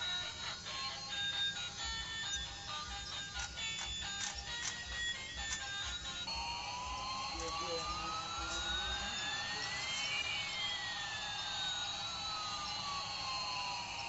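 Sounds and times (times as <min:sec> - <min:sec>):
toy jet engine sound effect: 0:00.0 - 0:14.0.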